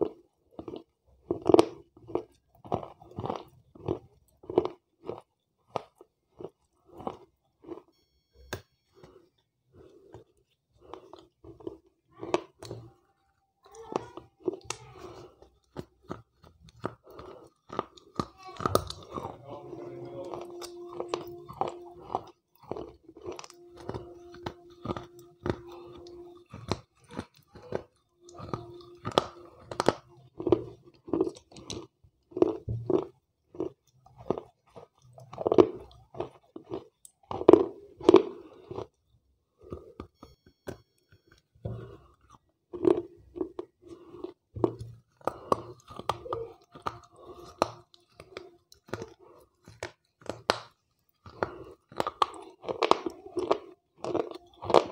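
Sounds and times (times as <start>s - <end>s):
crunching and chewing: 0.0s - 54.9s.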